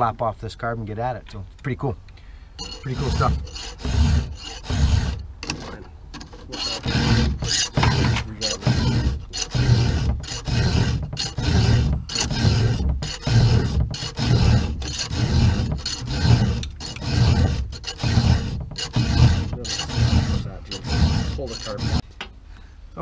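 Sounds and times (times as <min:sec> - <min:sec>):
round file rasping on chainsaw chain: 0:02.6 - 0:22.0.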